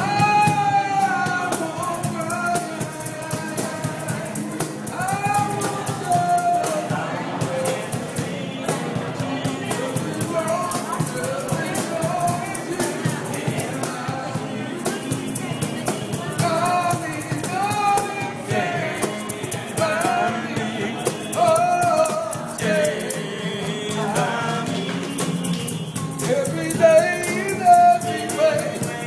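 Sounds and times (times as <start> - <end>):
hand percussion beat: 0.0 - 29.0
men singing together: 0.0 - 29.0
strummed acoustic guitar: 0.0 - 29.0.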